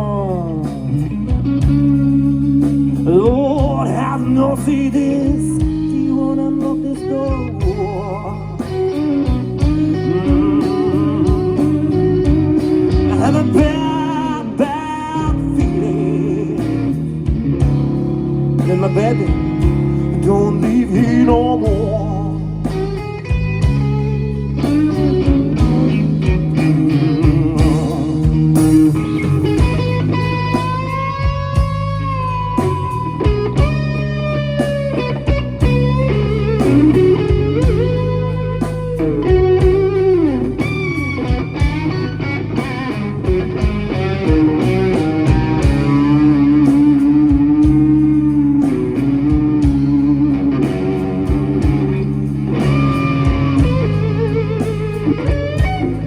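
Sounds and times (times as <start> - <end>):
electric guitar lead with bent notes: 0.0 - 56.0
steady bass: 0.0 - 56.0.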